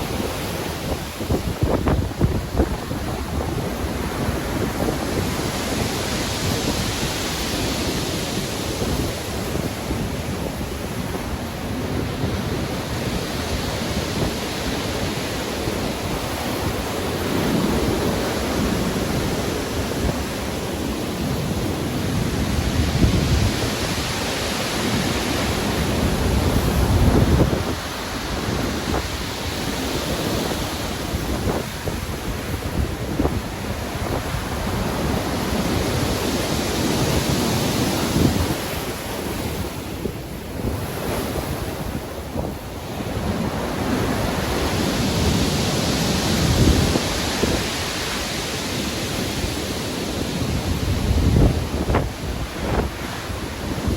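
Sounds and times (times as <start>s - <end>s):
stormy surf breaking: 0.0s - 53.9s
wind: 0.0s - 53.9s.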